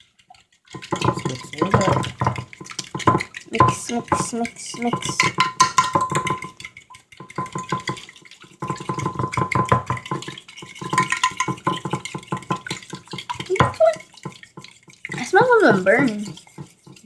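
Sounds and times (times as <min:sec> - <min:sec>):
utensil beating batter in bowl: 0:00.0 - 0:17.0.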